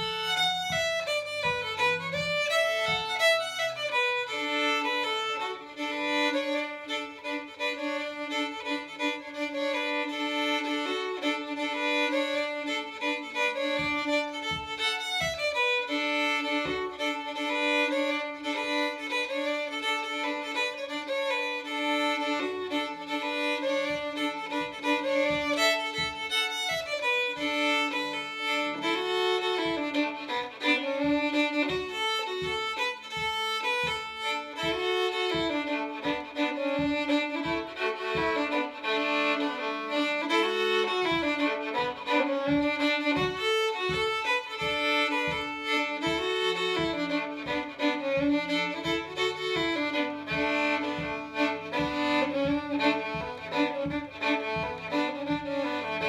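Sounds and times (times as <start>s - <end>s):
fiddle tune: 0.0s - 56.0s.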